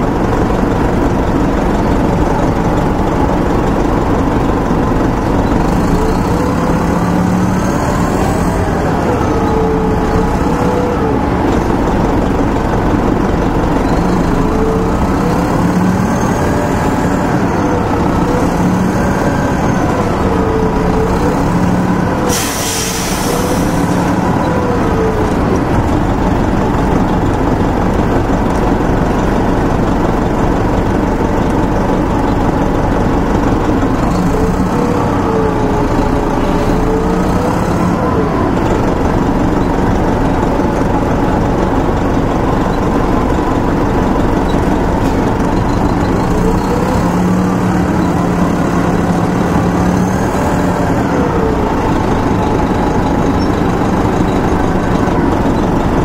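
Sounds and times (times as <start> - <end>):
diesel bus engine running: 0.0 - 56.0.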